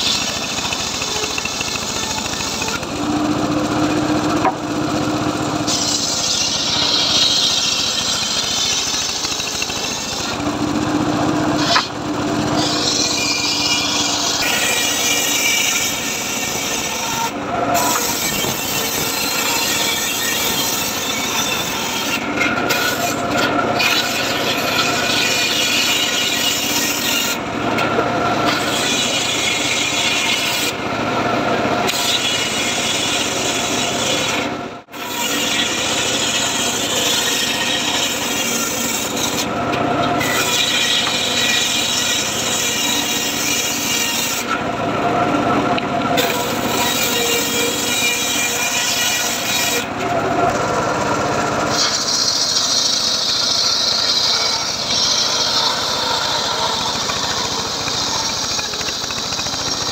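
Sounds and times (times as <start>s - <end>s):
circular saw cutting wood: 0.0s - 59.9s.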